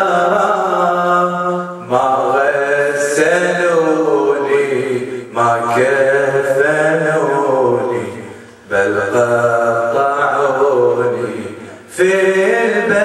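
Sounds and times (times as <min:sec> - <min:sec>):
man chanting lament: 0:00.0 - 0:13.0.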